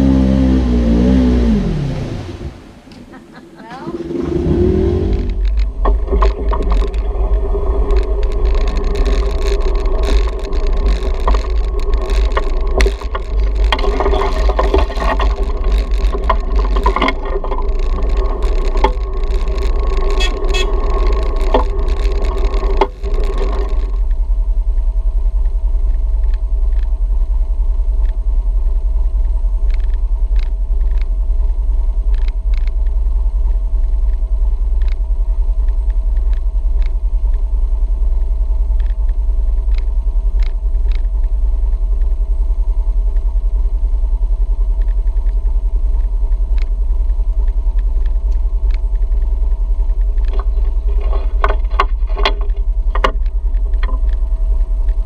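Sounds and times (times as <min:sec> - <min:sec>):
heavy low rumble: 0:00.0 - 0:55.0
off-road vehicle engine running: 0:00.0 - 0:55.0.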